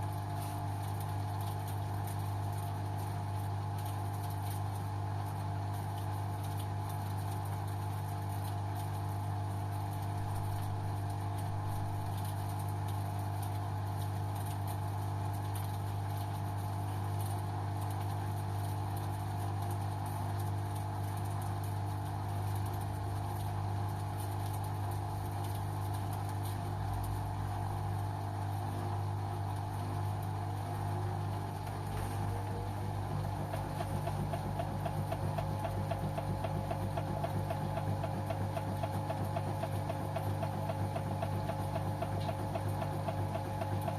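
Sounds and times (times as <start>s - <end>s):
washing machine humming: 0.0s - 43.9s.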